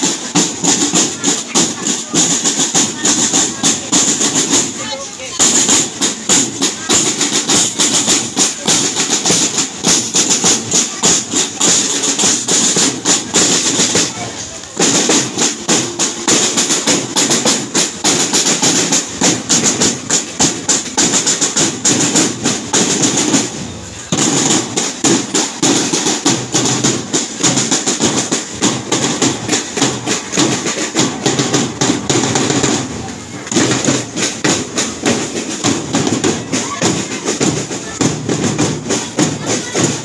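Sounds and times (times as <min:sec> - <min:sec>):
snare drums playing fast: 0:00.0 - 0:40.0.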